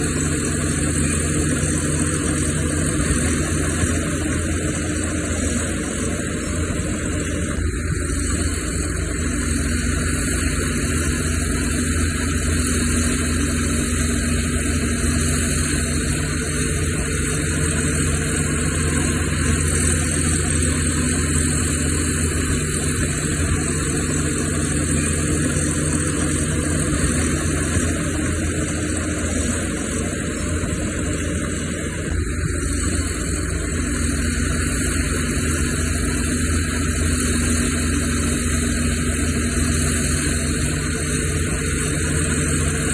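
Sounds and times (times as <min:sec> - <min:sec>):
heavy machinery diesel engine running: 0:00.0 - 0:42.9.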